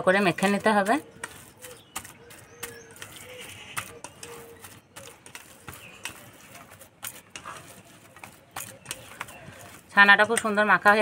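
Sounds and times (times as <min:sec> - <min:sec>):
hands kneading soft curd: 0:00.0 - 0:11.0.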